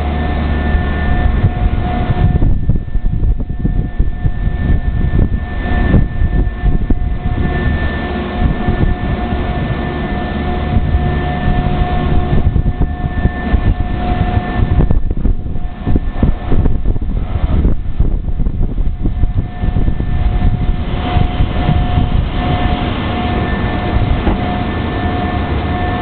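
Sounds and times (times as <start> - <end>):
cleaning machine roaring: 0.0 - 26.0
high whine: 0.0 - 26.0.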